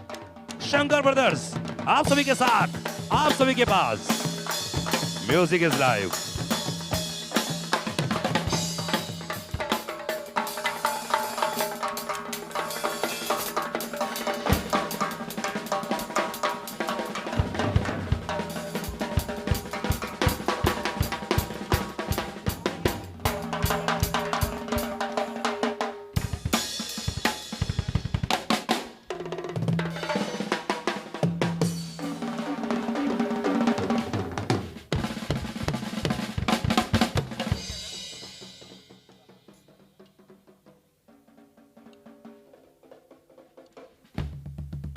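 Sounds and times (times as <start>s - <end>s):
drums played fast: 0.0s - 44.9s.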